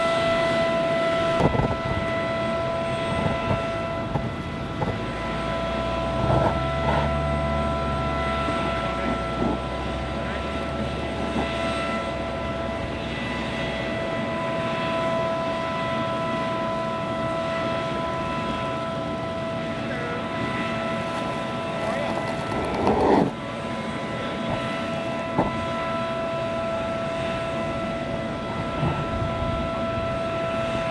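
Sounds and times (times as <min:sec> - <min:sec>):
jet engines whining: 0:00.0 - 0:30.9.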